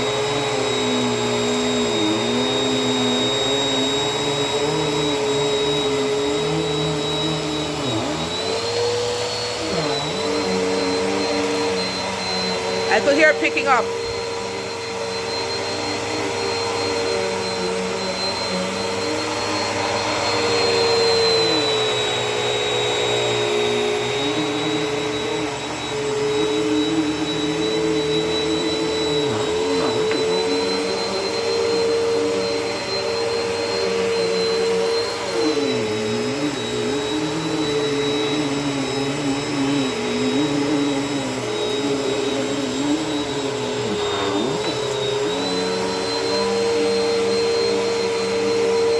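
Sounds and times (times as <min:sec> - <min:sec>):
vacuum cleaner on carpet: 0:00.0 - 0:48.9.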